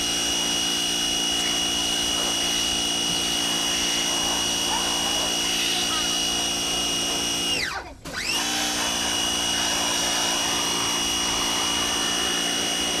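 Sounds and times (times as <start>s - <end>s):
pressure washer motor whining: 0.0s - 13.0s.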